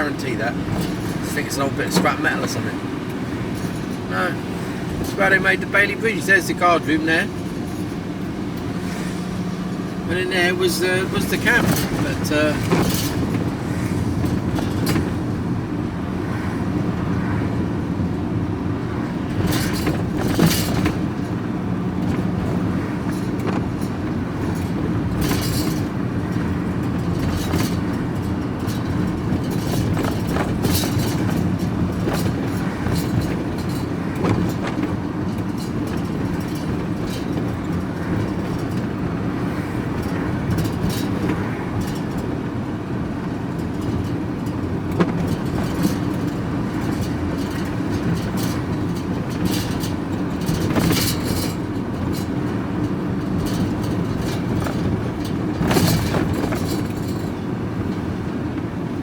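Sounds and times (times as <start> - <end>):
rattles and knocks in cab: 0.0 - 59.0
vehicle engine and road drone: 0.0 - 59.0.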